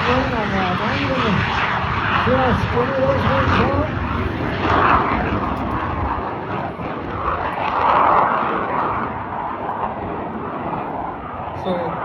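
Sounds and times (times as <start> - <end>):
jet engines during takeoff: 0.0 - 12.0.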